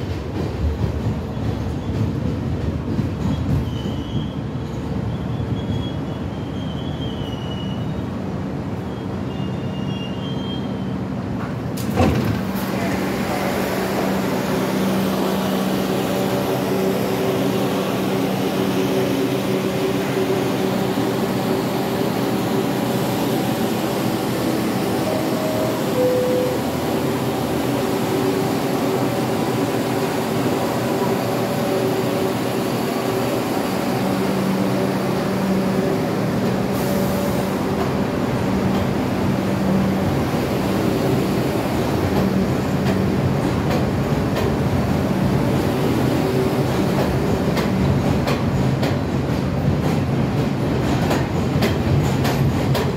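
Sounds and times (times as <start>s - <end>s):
subway train mechanical hum: 0.0s - 52.9s.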